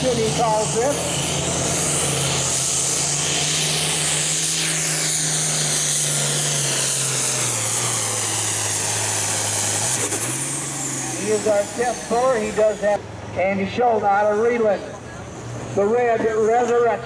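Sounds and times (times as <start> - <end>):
tractor diesel engine running hard: 0.0 - 17.0.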